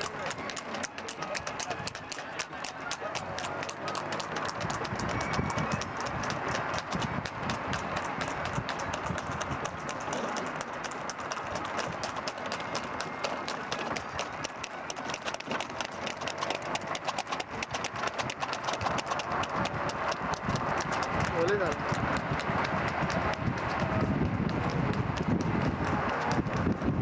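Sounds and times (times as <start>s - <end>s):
horse hooves on paved road: 0.0s - 27.0s
steady rushing noise: 0.0s - 27.0s.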